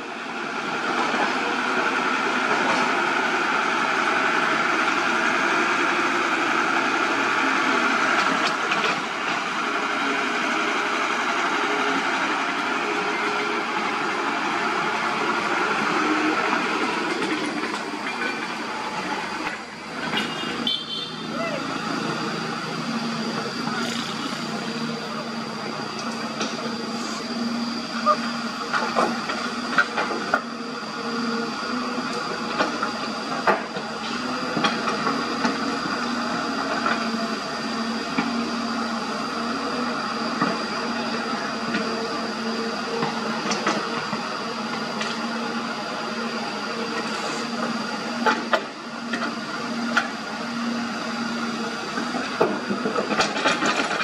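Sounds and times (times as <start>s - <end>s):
steady high whine: 0.0s - 54.0s
diesel engine under load: 0.3s - 54.0s.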